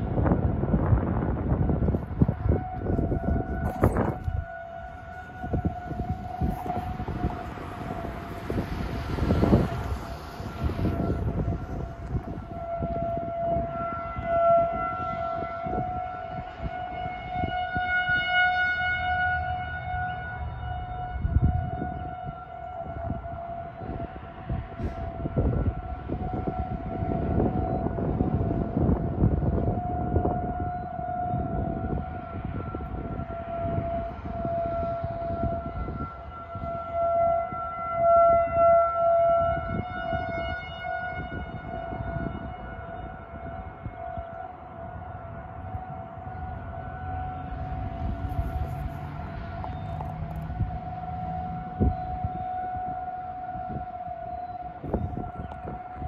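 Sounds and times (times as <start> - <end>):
civil defense siren steady tone: 0.0 - 56.0
gusty low rumble: 0.0 - 56.0.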